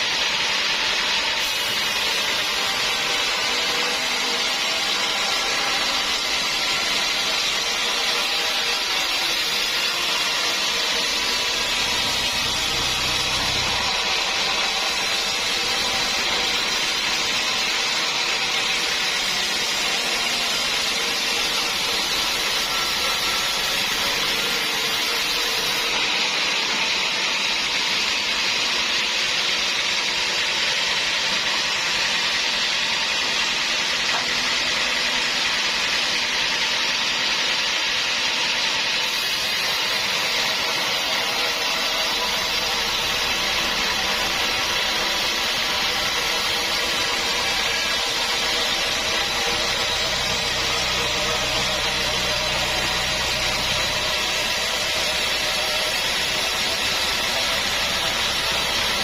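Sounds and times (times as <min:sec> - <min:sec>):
bandsaw cutting wood: 0:00.0 - 0:59.0.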